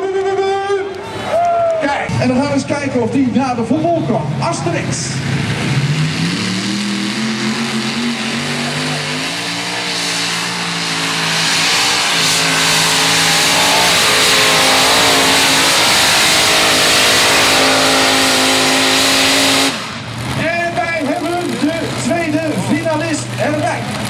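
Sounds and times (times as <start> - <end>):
tractor engine running hard: 2.7 - 24.0.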